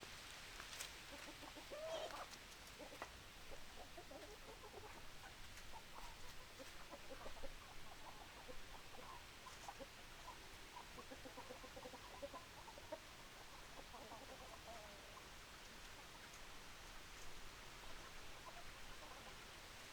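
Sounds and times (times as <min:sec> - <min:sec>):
chickens clucking: 0:00.8 - 0:19.9.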